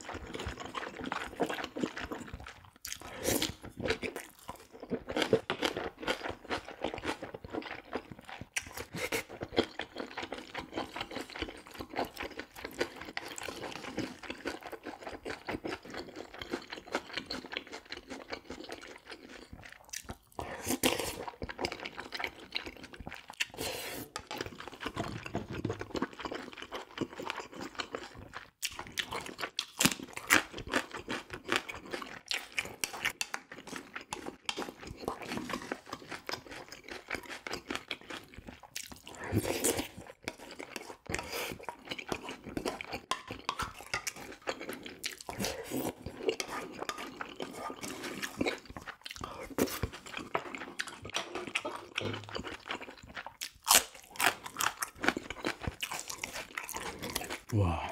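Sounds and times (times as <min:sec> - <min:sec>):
person chewing and crunching food: 0:00.0 - 0:57.9.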